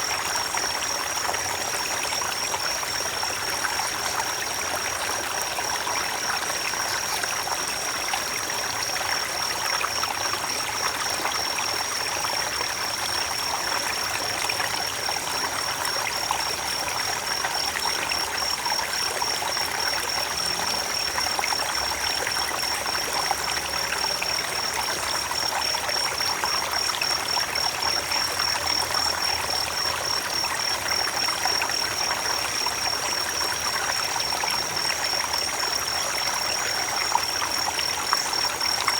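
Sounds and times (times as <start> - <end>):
creek water over rocks: 0.0 - 38.9.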